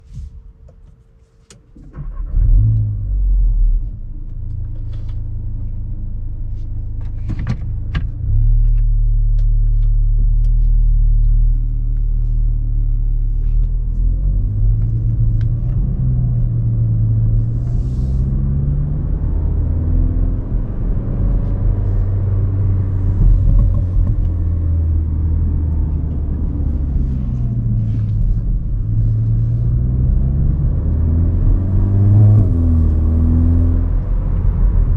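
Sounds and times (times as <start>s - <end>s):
car engine rumbling and revving: 1.7s - 34.9s.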